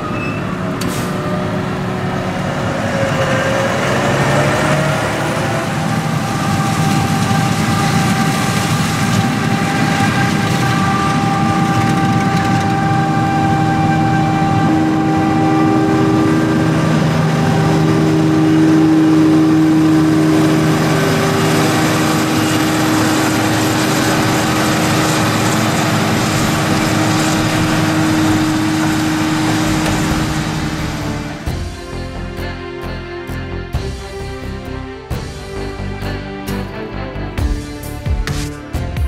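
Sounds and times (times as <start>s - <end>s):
diesel machinery engine droning: 0.0s - 38.8s.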